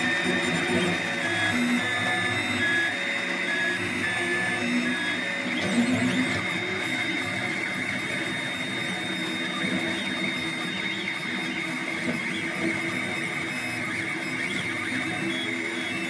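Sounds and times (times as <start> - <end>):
steady high-pitched whine: 0.0 - 16.0
stepper motors whining: 0.0 - 16.0.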